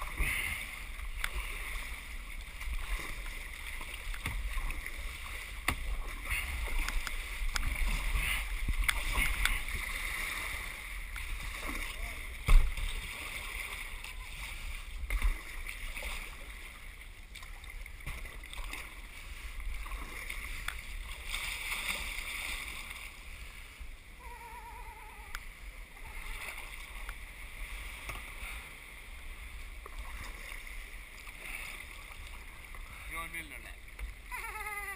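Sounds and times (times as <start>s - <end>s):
water lapping and splashing: 0.0s - 34.9s.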